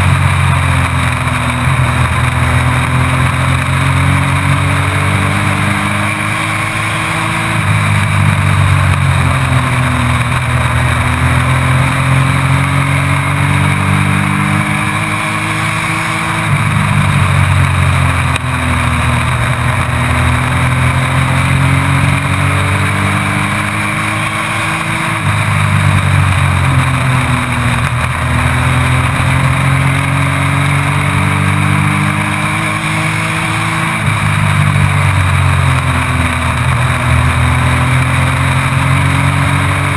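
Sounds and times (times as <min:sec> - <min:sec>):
race truck engine revving: 0:00.0 - 0:39.9
steady rush of noise: 0:00.0 - 0:39.9.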